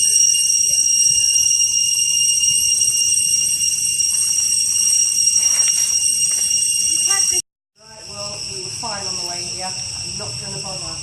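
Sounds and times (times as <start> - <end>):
cicadas chorus: 0.0 - 11.0.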